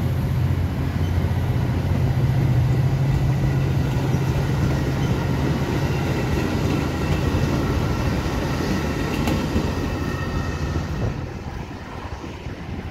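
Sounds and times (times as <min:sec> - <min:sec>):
train wheels on rails: 0:00.0 - 0:12.9.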